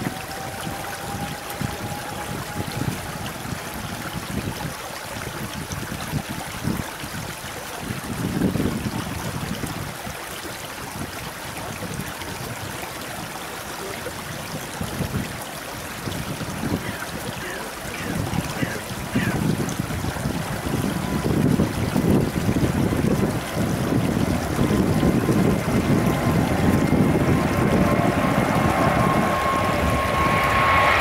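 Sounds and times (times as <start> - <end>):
distant jet engines roaring: 0.0 - 5.8, 11.4 - 31.0.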